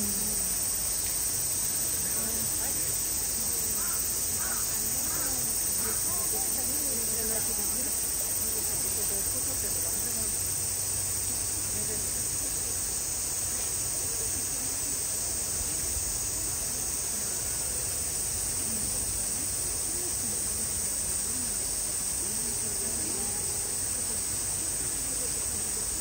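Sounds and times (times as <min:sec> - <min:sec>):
cicada chorus drone: 0:00.0 - 0:26.0
distant chatter of people: 0:00.0 - 0:26.0.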